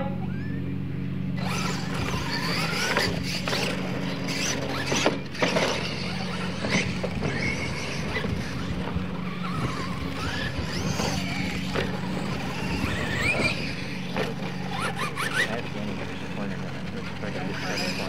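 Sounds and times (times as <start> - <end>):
toy truck motors whining: 0.1 - 18.0.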